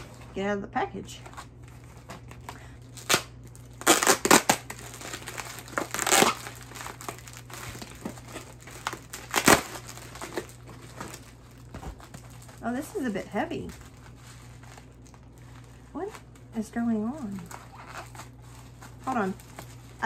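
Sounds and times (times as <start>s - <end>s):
plastic packaging crinkling: 1.0s - 20.0s.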